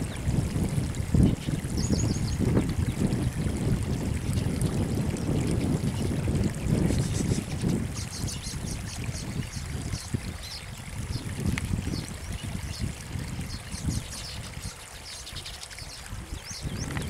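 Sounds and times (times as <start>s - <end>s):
birds chirping: 0.0s - 0.3s, 1.2s - 3.2s, 5.2s - 17.0s.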